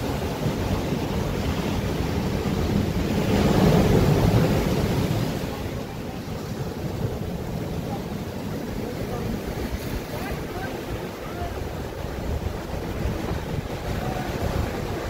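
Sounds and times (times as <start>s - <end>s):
ocean waves crashing on rocks: 0.0s - 15.0s.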